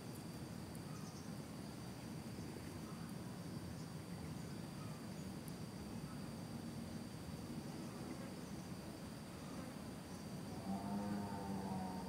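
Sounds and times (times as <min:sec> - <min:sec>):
faint insect chirps: 0:00.0 - 0:12.0
insects whining: 0:00.7 - 0:12.0.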